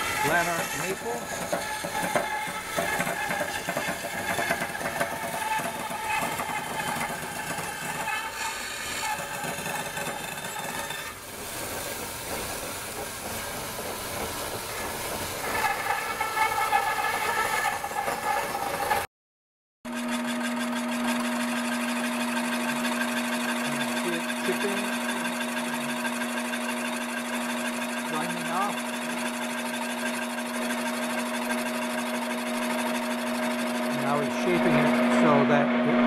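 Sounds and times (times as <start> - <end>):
band saw cutting wood: 0.0 - 19.1, 19.9 - 36.0.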